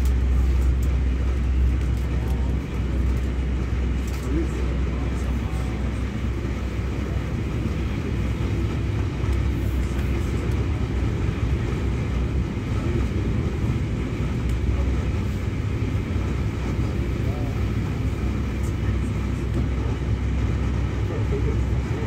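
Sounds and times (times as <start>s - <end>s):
passenger train rumbling: 0.0s - 22.0s.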